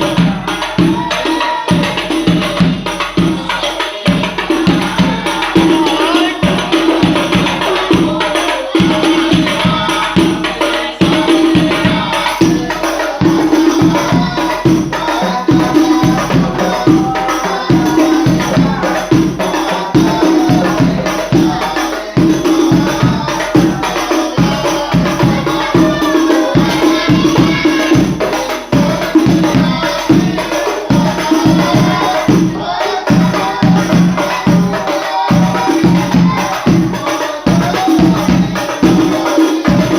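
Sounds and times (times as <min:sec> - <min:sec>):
frame drums beating: 0:00.0 - 0:39.9
group singing devotional song: 0:00.0 - 0:39.9.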